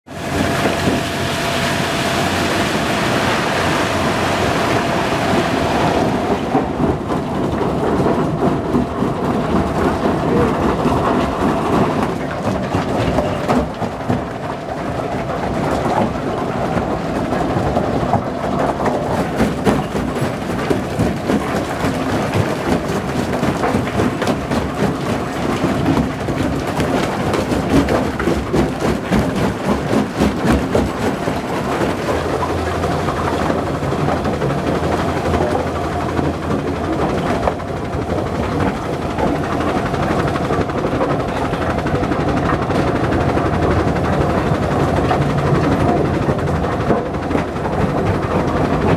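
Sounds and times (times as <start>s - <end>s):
rock crusher rumbling and clattering: 0.1s - 48.9s.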